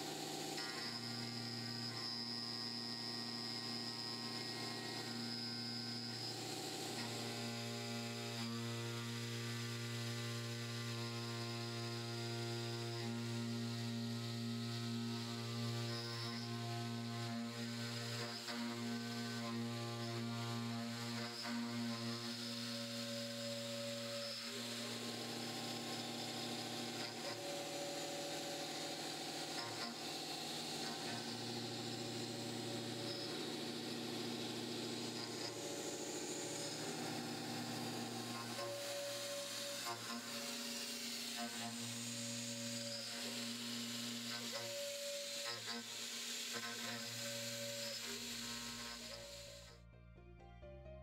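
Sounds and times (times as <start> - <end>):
milling machine humming drone: 0.0 - 21.6, 22.2 - 49.8.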